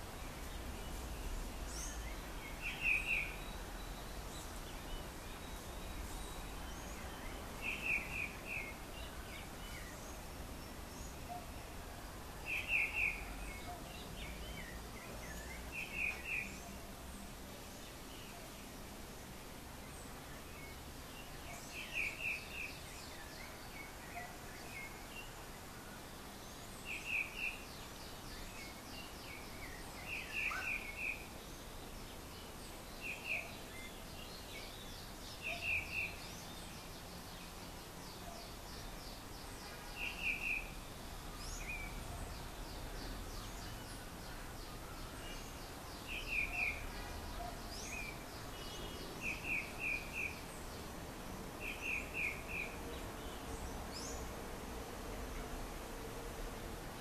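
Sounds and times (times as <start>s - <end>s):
birds chirping: 0.0s - 55.6s
outdoor background hiss: 0.0s - 57.0s.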